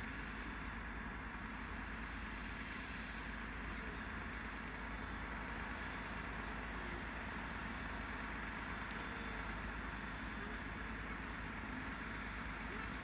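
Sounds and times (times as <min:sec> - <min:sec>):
fire trucks idling: 0:00.0 - 0:13.0.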